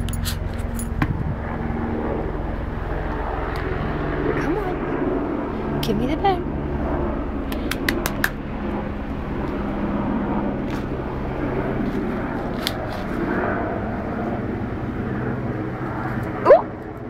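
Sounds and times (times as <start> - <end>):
engine-like rumble with low hum: 0.0 - 17.0.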